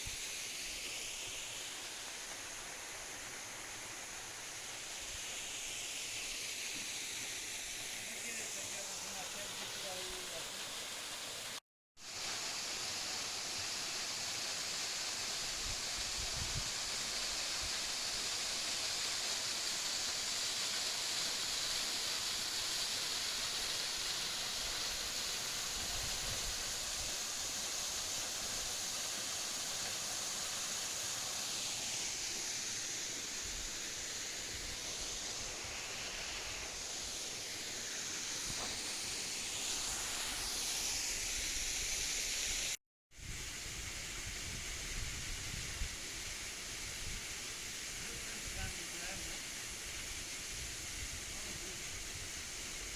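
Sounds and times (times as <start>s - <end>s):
rushing flowing water: 0.0s - 42.8s.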